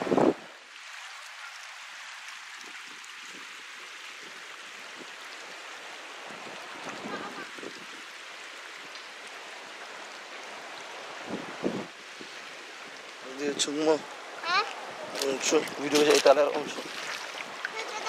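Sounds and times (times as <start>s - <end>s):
river flowing over stones: 0.1s - 18.0s.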